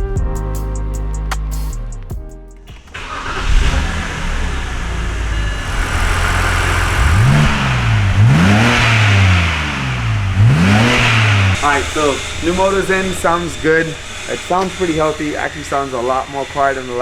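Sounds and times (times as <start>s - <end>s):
car engine starting and idling: 2.7s - 17.0s
car engine revving: 2.8s - 17.0s.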